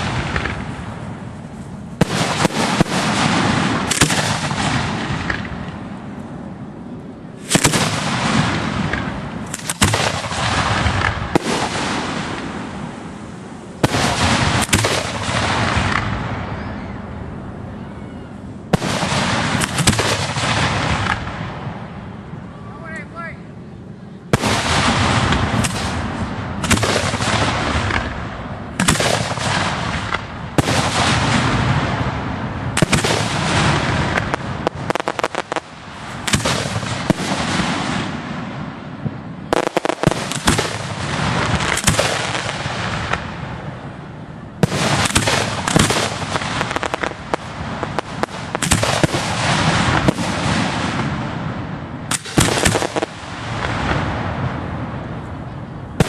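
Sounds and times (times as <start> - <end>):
fireworks launching and banging: 0.0 - 6.5, 7.3 - 17.5, 18.7 - 22.1, 24.3 - 56.0
ground fountain fireworks hissing: 0.0 - 56.0.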